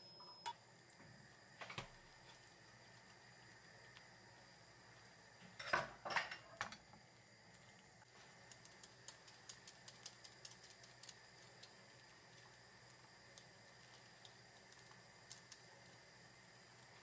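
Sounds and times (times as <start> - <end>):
faint sizzle of eggs cooking: 0.0 - 17.0
light scattered ticks: 1.4 - 5.5, 7.4 - 17.0.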